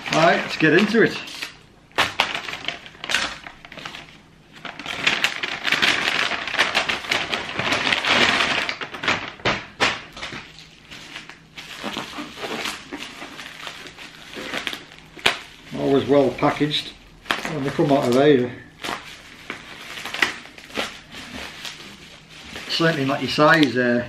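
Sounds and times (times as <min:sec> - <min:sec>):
bubble wrap crackling: 0:00.0 - 0:24.0
packaging rustling and crinkling: 0:00.0 - 0:24.0.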